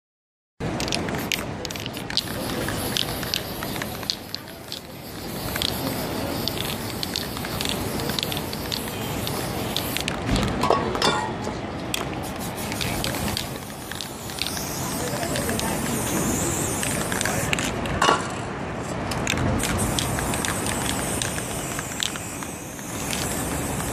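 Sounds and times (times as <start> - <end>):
spray can hissing: 0.8 - 10.2, 11.9 - 17.7, 19.3 - 23.9.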